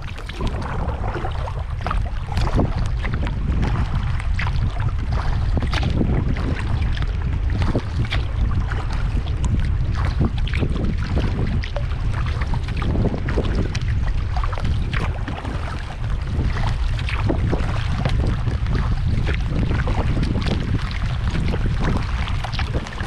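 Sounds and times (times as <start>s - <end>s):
rain drops hitting water and kayak: 0.0s - 23.0s
wind buffeting microphone: 0.0s - 23.0s.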